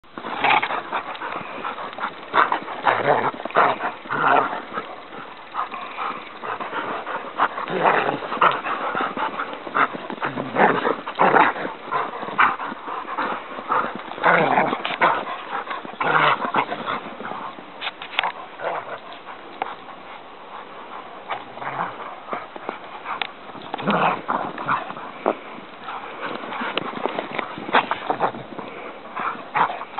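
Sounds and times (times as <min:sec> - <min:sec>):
dogs play-fighting vocalizing: 0:00.0 - 0:29.9.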